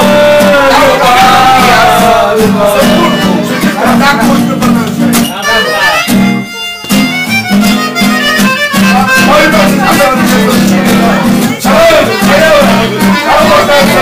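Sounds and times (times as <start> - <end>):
accordion party music: 0.0 - 14.0.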